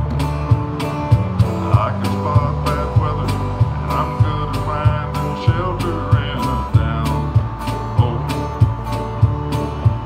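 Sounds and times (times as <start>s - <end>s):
cajon beat: 0.0s - 10.0s
strummed guitar: 0.0s - 10.0s
man singing: 1.4s - 10.0s.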